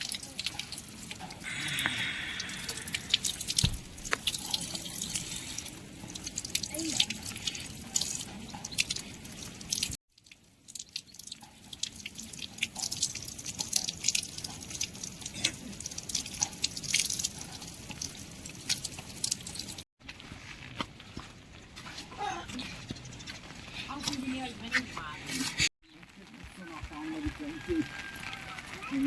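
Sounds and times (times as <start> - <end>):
water dripping: 0.0 - 29.0.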